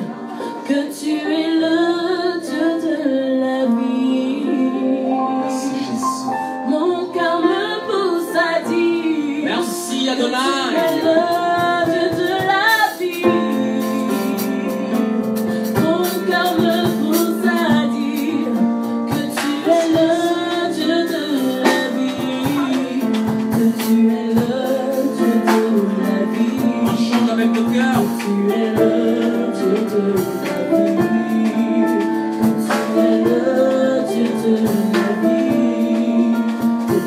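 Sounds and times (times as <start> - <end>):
sustained keyboard chords: 0.0 - 37.0
women singing worship song: 0.0 - 37.0.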